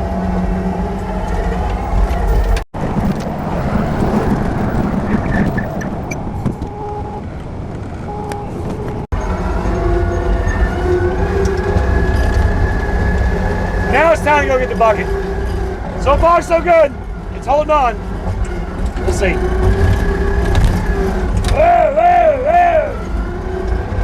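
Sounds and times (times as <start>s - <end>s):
higher whine: 0.0s - 24.0s
loader engine running: 0.0s - 24.0s.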